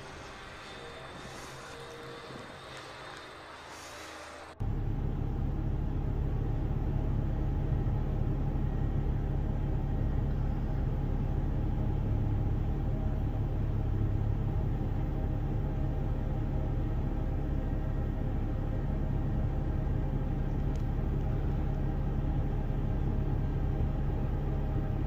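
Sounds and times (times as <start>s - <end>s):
loud low rumble: 4.4s - 25.0s.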